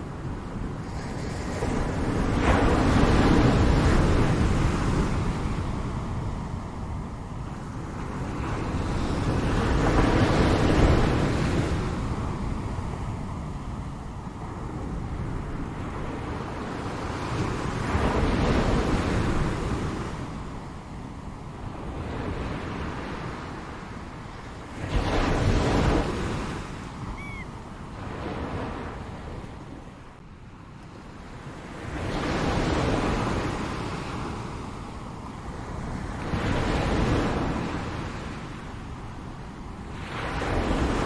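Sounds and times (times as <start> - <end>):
waves washing in: 0.0 - 30.4, 31.0 - 41.0.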